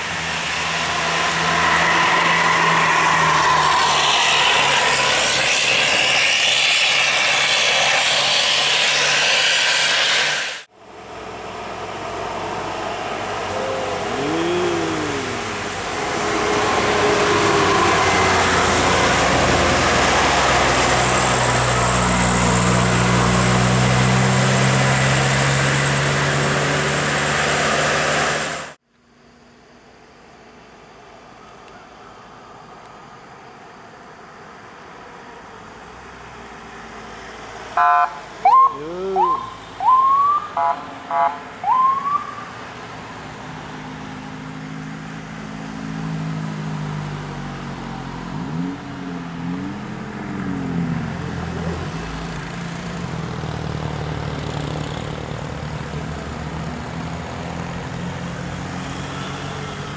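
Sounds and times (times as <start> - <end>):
bus engines: 0.0 - 28.8, 29.6 - 59.9
heavy road traffic: 0.0 - 59.9.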